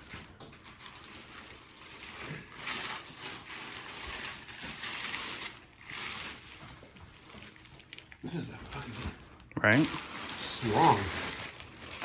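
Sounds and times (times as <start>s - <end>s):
cardboard packaging rustling: 0.0s - 12.0s.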